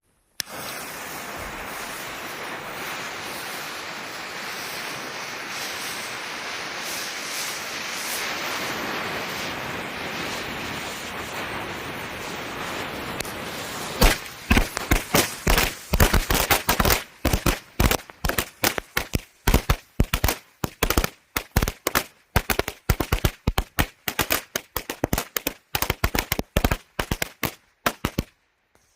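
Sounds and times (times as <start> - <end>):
firecracker fuse hissing: 0.1 - 28.9
firecracker bangs: 0.4 - 28.3.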